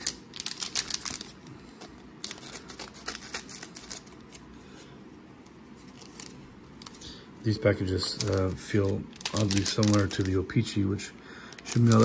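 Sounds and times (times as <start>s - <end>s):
plastic wrappers crinkling: 0.0s - 4.5s, 5.8s - 10.8s, 11.4s - 12.0s.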